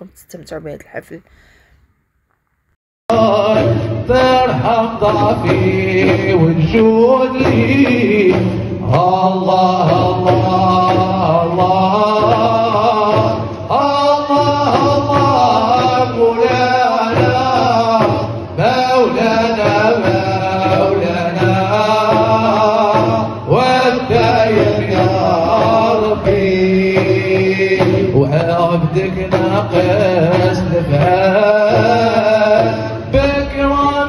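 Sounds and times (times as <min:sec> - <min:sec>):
men chanting together: 0:03.1 - 0:34.0.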